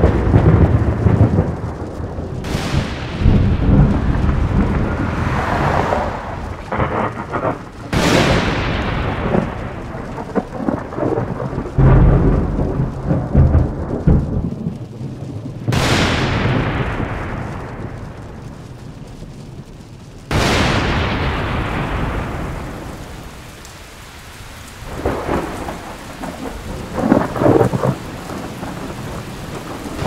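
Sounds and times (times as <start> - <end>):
rain hiss: 0.0 - 30.0
thunder cracking and rumbling: 0.0 - 30.0.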